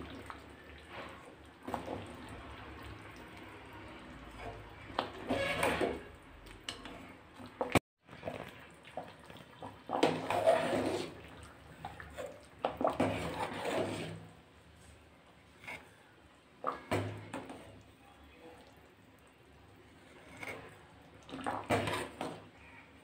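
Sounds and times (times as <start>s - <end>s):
thick gravy stirred in a pot: 0.0s - 23.0s.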